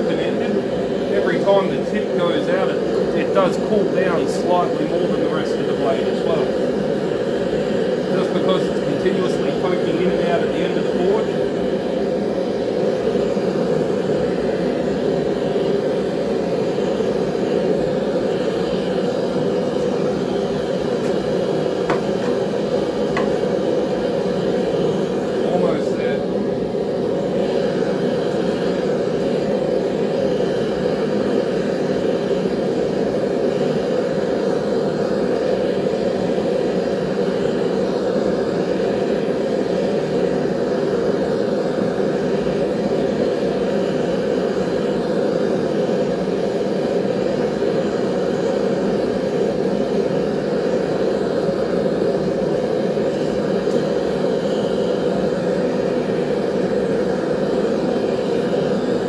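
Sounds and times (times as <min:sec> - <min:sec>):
forge roaring: 0:00.0 - 0:59.0.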